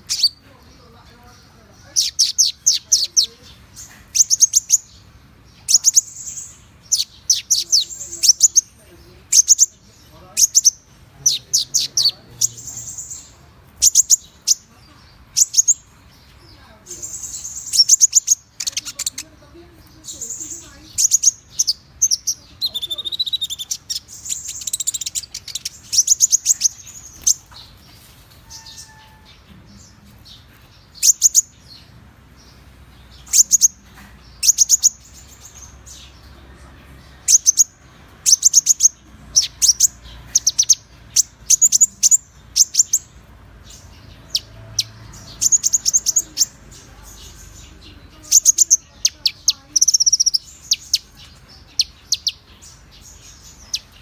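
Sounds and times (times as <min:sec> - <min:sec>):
songbird chirping trills: 0:00.0 - 0:54.0.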